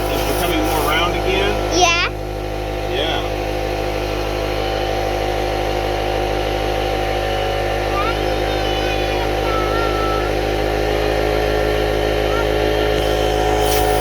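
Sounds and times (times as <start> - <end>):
electric air compressor running: 0.0 - 14.0.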